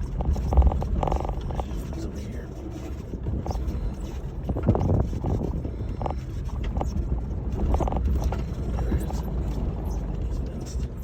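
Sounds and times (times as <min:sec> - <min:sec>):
body and suspension rattles: 0:00.0 - 0:11.0
engine and road rumble: 0:00.0 - 0:11.0.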